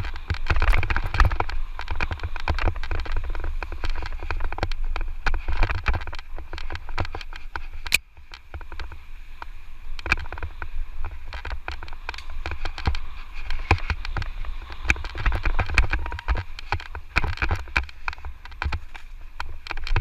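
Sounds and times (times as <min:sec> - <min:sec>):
bike frame rattling and clicking: 0:00.0 - 0:20.0
wind buffeting microphone: 0:00.0 - 0:20.0.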